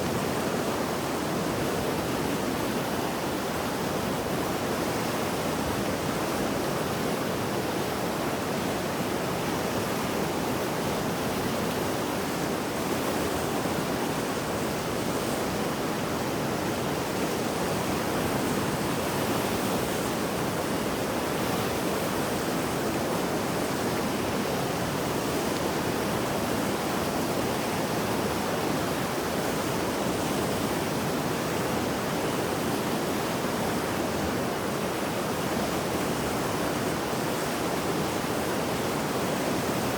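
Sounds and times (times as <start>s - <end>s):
rushing flood river water: 0.0s - 39.9s.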